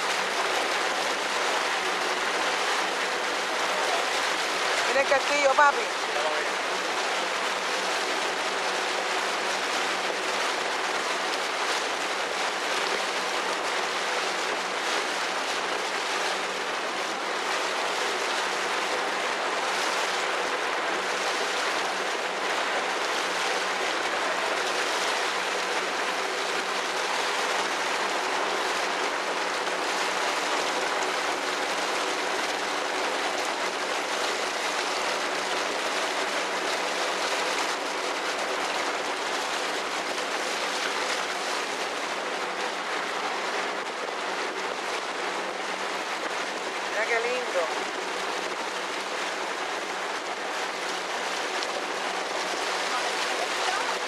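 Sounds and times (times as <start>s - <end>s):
boat engine drone: 0.0s - 54.0s
water rushing: 0.0s - 54.0s.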